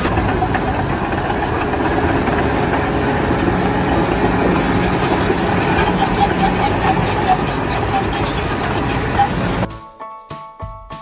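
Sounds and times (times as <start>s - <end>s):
heavy machinery running: 0.0s - 9.7s.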